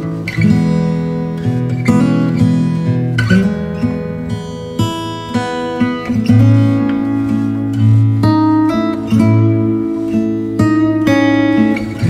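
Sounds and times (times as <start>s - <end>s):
acoustic guitar tune: 0.0s - 12.0s.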